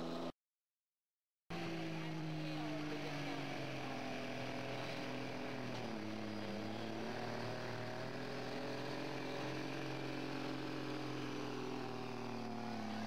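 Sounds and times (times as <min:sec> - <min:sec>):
diesel truck engine under load: 0:01.6 - 0:13.0.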